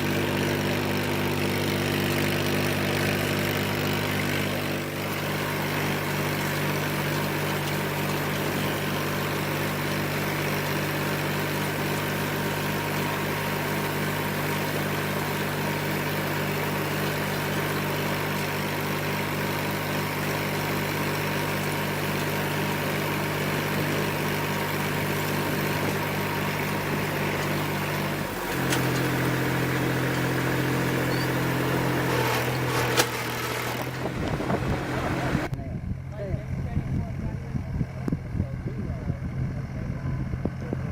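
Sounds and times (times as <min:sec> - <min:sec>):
farm machine engine running: 0:00.0 - 0:40.9.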